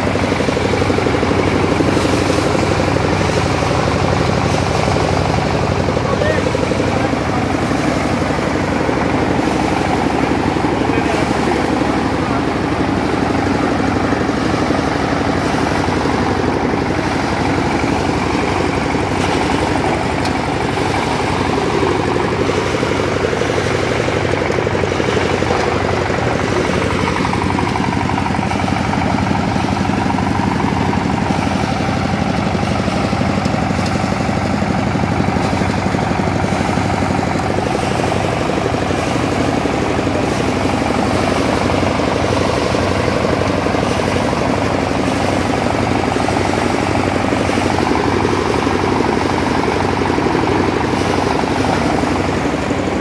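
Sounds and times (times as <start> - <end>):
paddy thresher running: 0.0 - 53.0.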